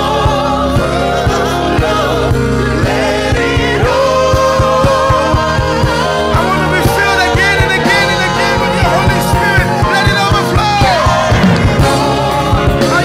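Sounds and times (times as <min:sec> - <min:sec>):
people singing: 0:00.0 - 0:13.0
drum beat: 0:00.2 - 0:13.0.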